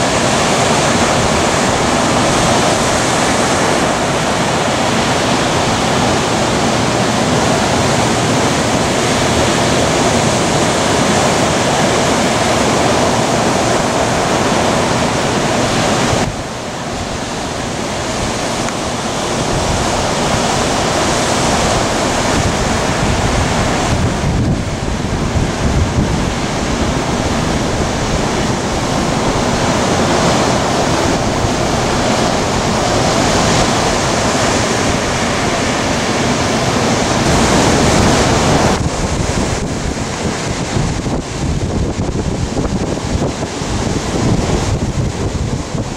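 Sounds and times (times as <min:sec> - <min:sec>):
heavy surf crashing: 0:00.0 - 0:45.9
wind buffeting microphone: 0:00.0 - 0:45.9.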